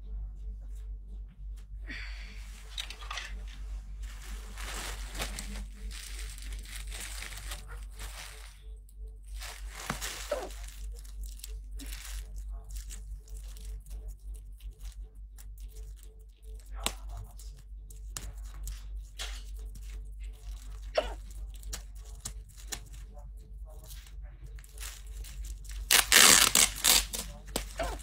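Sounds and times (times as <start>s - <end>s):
low steady hum: 0.0s - 28.0s
rustling and crinkling: 0.7s - 28.0s
small crackles: 2.6s - 28.0s.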